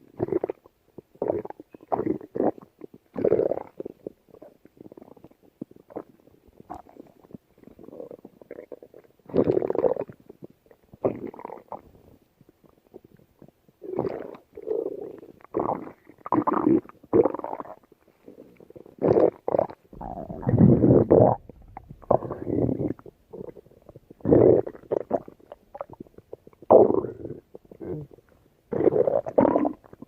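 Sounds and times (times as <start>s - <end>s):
stomach growling and gurgling: 0.0s - 30.0s.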